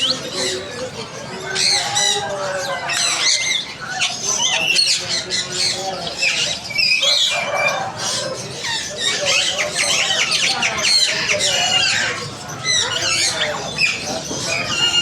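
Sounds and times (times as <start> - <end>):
parrot speech-like babble: 0.0 - 15.0
parrots whistling and squawking: 0.0 - 15.0.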